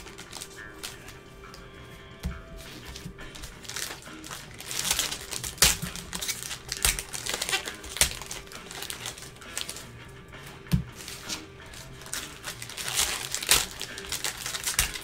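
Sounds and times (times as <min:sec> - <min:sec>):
wrapper crinkling and tearing: 0:00.0 - 0:01.1, 0:02.8 - 0:09.9, 0:11.0 - 0:15.0.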